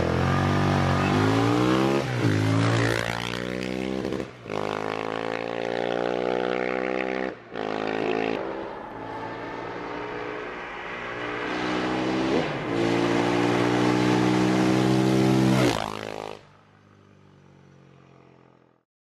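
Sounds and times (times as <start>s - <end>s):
motorcycle accelerating past: 0.0s - 18.8s.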